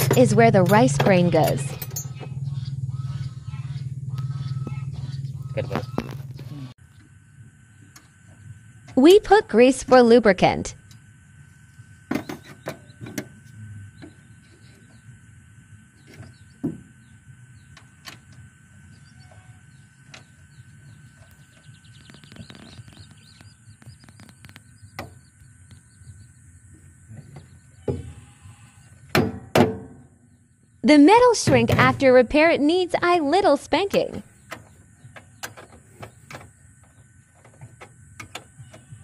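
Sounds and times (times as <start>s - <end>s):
low background hum: 0.0s - 39.0s.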